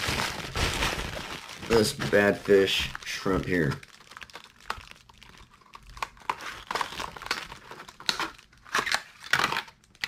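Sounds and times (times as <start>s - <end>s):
plastic blister pack crinkling: 0.0s - 10.0s.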